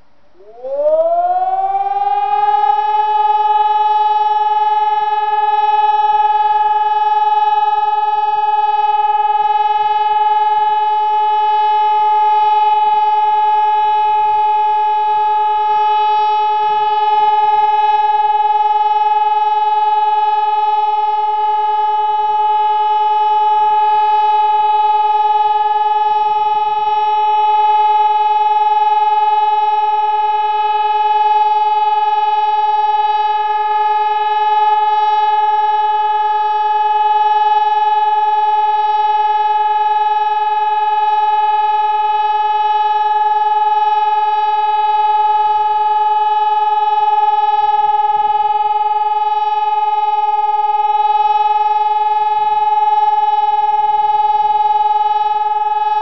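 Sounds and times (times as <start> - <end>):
electronic siren steady tone: 0.0 - 56.0.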